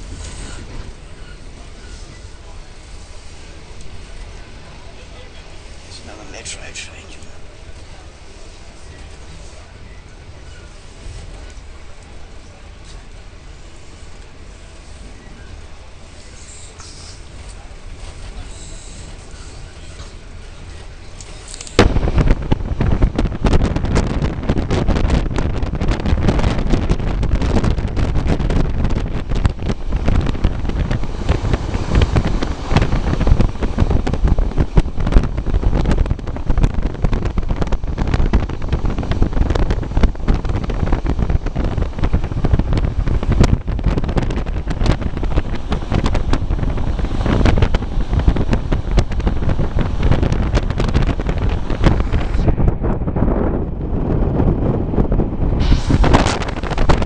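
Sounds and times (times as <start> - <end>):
moving train rumble: 0.0 - 57.0
wind buffeting microphone: 0.0 - 57.0.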